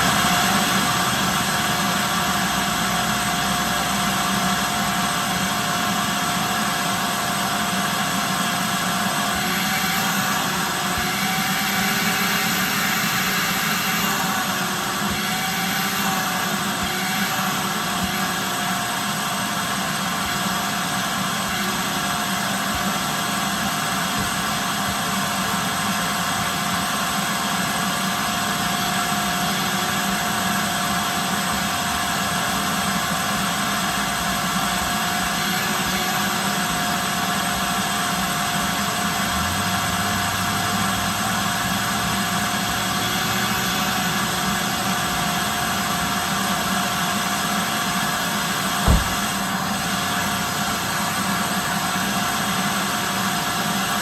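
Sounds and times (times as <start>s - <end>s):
shop vacuum running: 0.0s - 54.0s.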